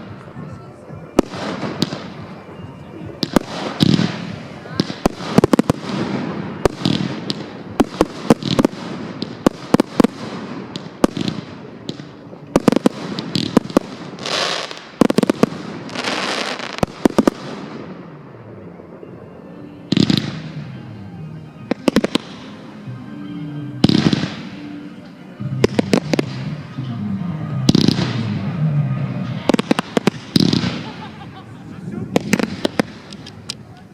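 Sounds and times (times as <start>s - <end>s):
fireworks hissing and crackling: 0.0s - 18.6s, 21.6s - 22.8s, 23.8s - 27.0s, 27.6s - 33.9s
fireworks bangs: 0.0s - 22.9s, 23.8s - 33.8s.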